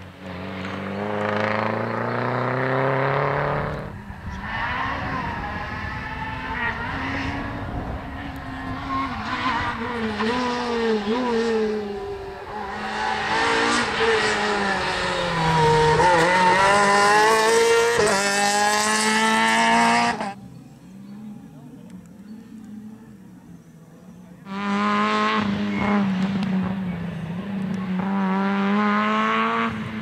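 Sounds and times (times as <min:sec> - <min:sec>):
rally car engine revving: 0:00.0 - 0:20.4, 0:24.4 - 0:30.0.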